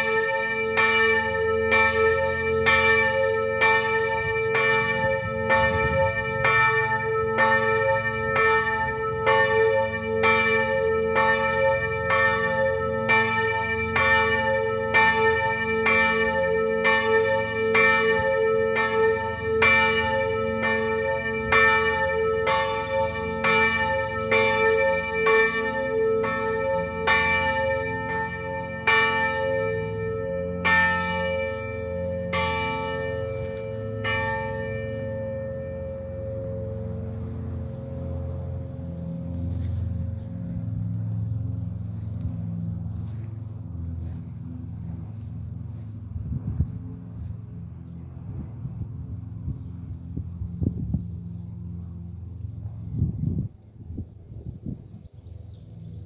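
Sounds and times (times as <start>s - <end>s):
church bells ringing: 0.0s - 46.0s.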